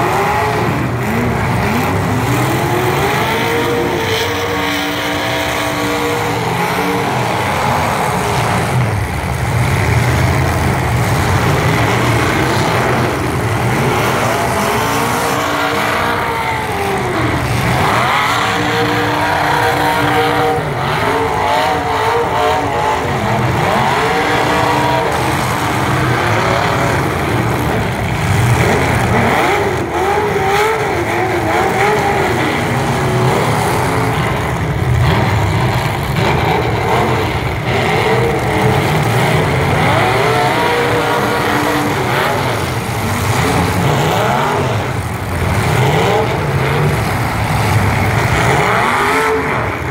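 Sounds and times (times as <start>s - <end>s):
truck engines revving: 0.0s - 49.9s.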